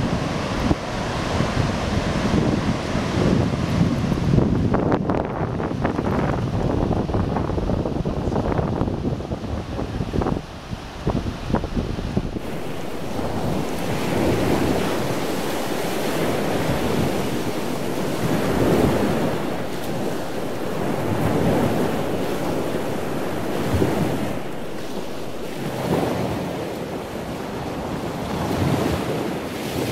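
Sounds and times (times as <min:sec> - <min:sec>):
ocean surf on beach: 0:00.0 - 0:29.9
wind buffeting microphone: 0:00.0 - 0:29.9.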